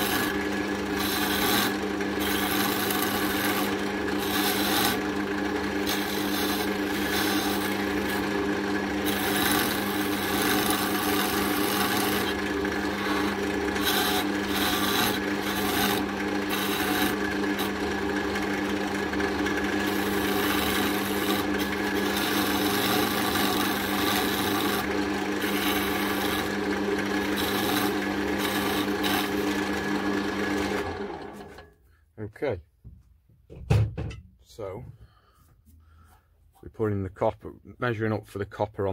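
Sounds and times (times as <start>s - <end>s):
lathe motor hum: 0.0s - 31.7s
turning tool scraping wood: 0.0s - 31.7s.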